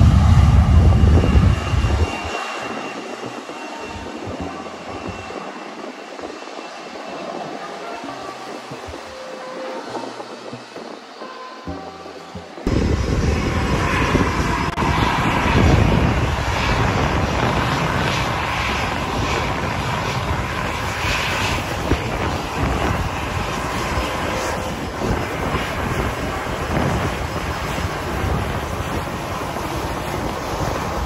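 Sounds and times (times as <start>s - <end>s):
airliner engines running: 0.0s - 31.0s.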